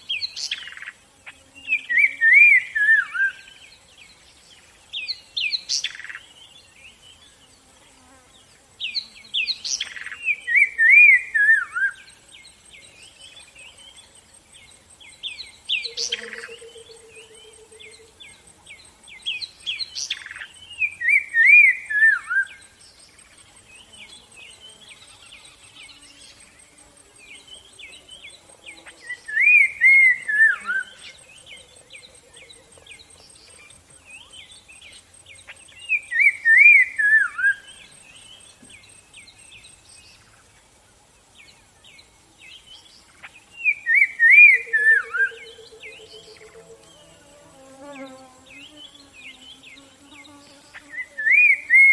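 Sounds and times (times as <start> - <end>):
birds chirping and twittering: 0.0 - 51.9.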